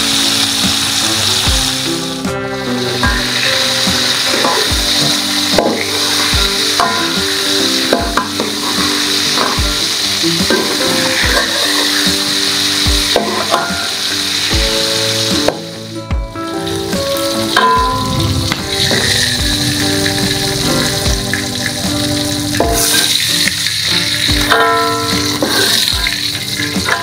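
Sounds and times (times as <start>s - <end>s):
background music with soft beat: 0.0s - 27.0s
shrimp sizzling in hot oil: 0.0s - 27.0s.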